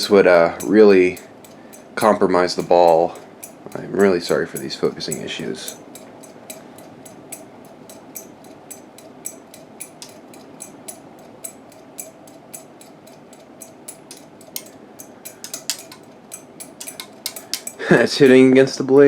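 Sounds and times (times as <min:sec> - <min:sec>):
pull chain rattling: 0:00.0 - 0:18.5
fan knocking against blades: 0:00.0 - 0:18.6
ceiling fan motor hum: 0:00.0 - 0:19.0.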